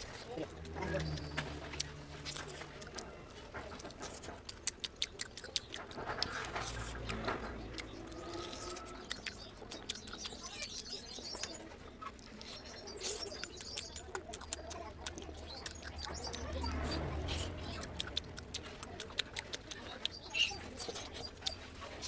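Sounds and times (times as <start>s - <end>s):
wet chewing and lip-smacking: 0.0s - 22.0s
sharp mouth clicks: 3.8s - 22.0s.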